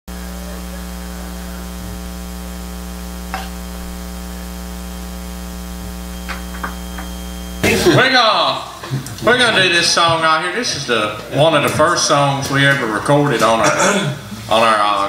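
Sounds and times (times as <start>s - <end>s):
electrical mains hum: 0.1s - 15.0s.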